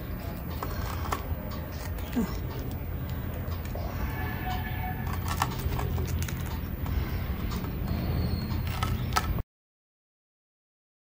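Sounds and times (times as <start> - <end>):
low steady rumble: 0.0 - 9.4.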